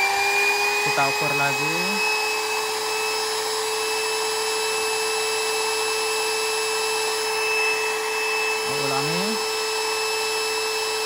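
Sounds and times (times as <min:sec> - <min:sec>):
router motor whining: 0:00.0 - 0:11.0.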